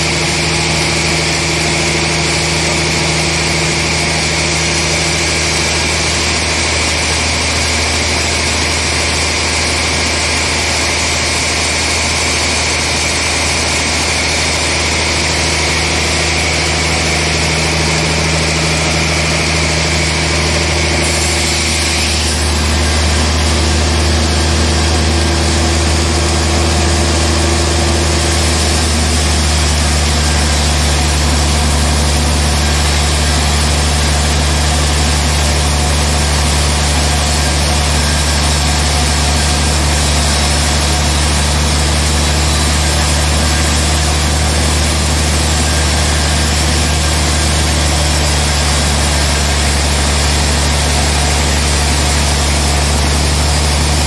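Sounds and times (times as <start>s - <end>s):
band saw drone: 0.0s - 54.0s
high saw whine: 0.0s - 54.0s
low machine hum: 0.0s - 54.0s.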